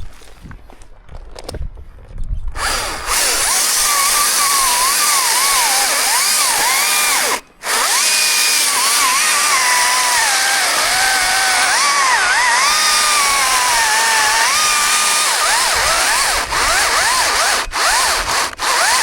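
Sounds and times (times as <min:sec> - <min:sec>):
chainsaw cutting wood: 0:02.6 - 0:19.0.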